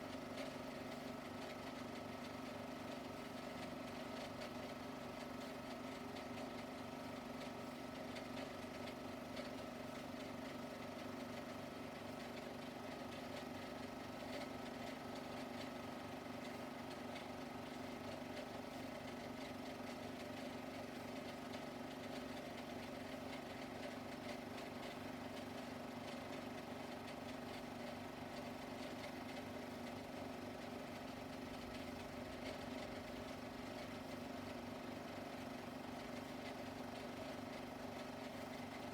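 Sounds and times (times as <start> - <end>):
mechanical hum and whir: 0.0 - 38.9.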